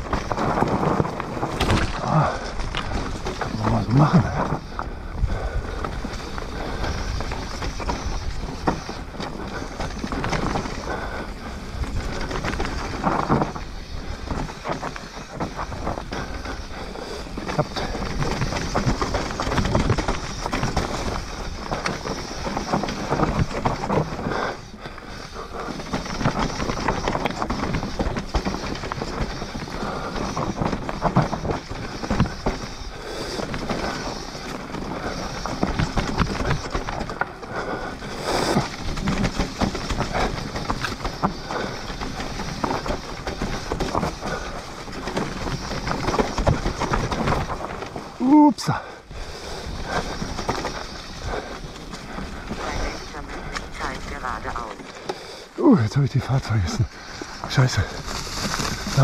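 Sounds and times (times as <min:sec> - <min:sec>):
wind noise on microphone: 0:00.0 - 0:54.7
bike rattling over bumps: 0:00.0 - 0:55.6, 0:56.8 - 0:59.0
bike tyres rolling over loose ground: 0:00.0 - 0:59.0.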